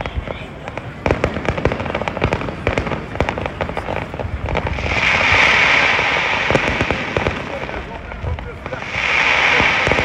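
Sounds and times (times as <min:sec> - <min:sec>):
fireworks bangs and pops: 0:00.0 - 0:10.0
fireworks hiss: 0:00.0 - 0:10.0.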